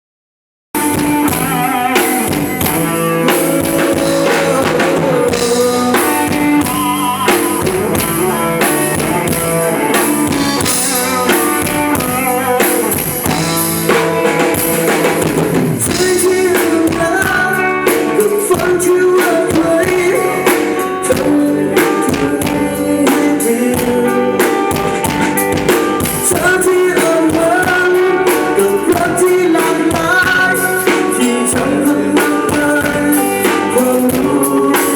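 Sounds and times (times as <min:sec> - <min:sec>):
live rock band playing: 0:00.8 - 0:34.9.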